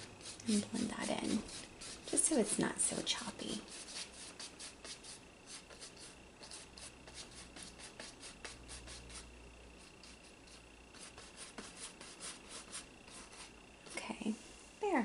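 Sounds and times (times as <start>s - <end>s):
paintbrush scrubbing on canvas: 0.0s - 9.2s, 9.8s - 13.5s.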